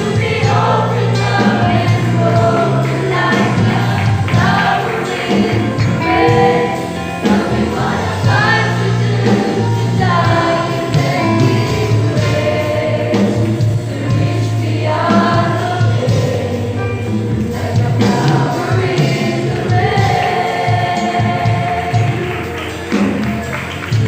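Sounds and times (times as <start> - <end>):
youth choir singing gospel: 0.0 - 24.0.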